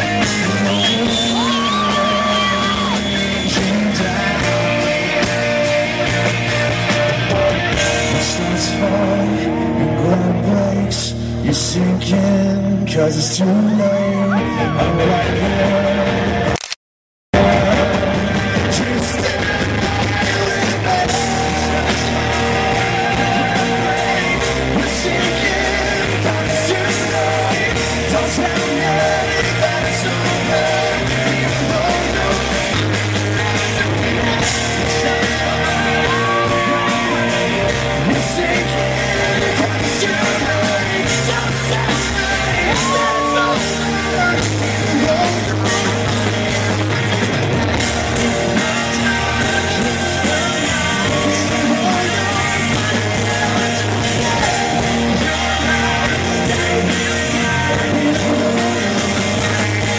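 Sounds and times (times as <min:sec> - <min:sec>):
singing and yelling: 0:00.0 - 0:16.4, 0:17.4 - 0:59.9
live rock band playing: 0:00.0 - 0:16.7, 0:17.3 - 0:59.9.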